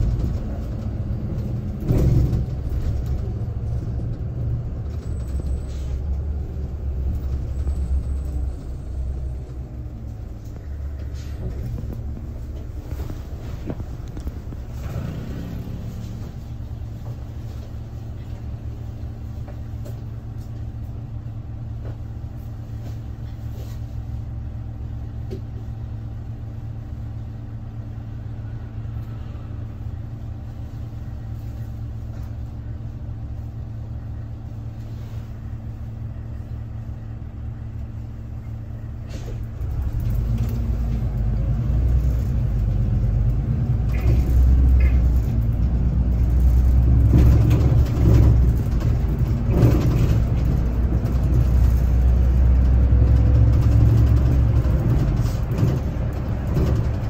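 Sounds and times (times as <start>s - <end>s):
bus engine idling: 0.0s - 57.0s.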